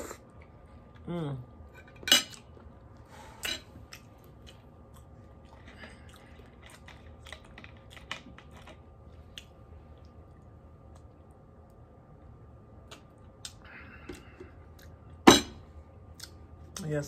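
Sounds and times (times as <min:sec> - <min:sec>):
person chewing food: 0:02.3 - 0:15.2, 0:15.8 - 0:16.8.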